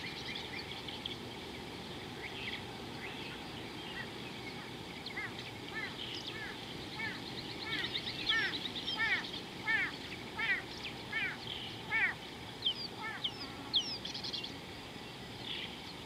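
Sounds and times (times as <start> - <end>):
birds chirping: 0.0 - 16.0
low background hiss: 0.0 - 16.0.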